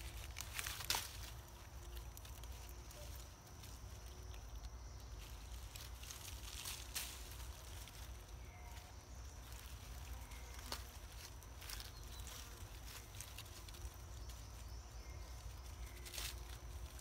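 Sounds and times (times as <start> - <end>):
light rustles in dry leaves: 0.0 - 17.0
low outdoor rumble: 0.0 - 17.0.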